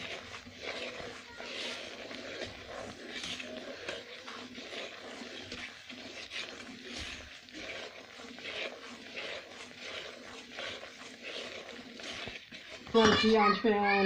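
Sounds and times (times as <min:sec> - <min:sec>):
spatula scraping thick mixture: 0:00.0 - 0:14.0.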